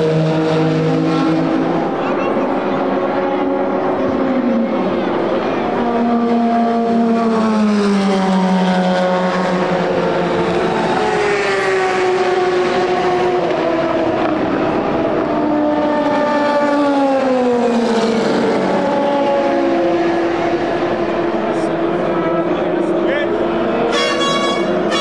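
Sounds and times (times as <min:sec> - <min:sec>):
race car engines: 0:00.0 - 0:25.0.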